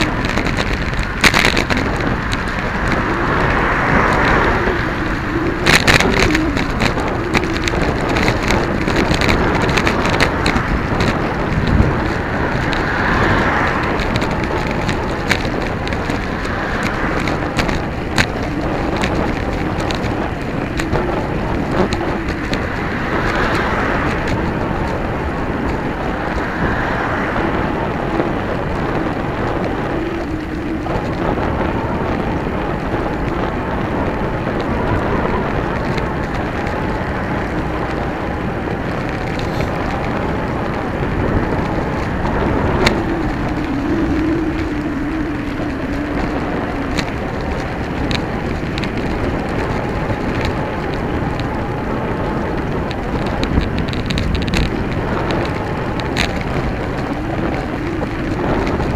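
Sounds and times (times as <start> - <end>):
bicycle rattling over bumps: 0.0 - 58.9
tyre noise on wet road: 0.0 - 58.9
wind rush on microphone: 0.0 - 58.9.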